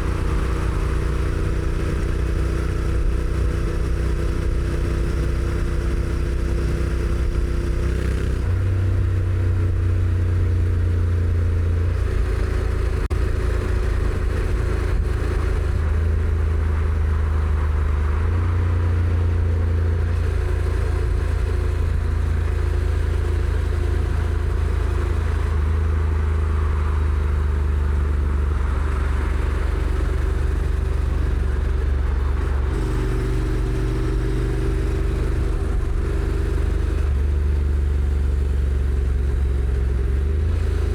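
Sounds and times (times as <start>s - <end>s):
motorcycle engine revving: 0.0s - 40.9s
road noise: 0.0s - 40.9s.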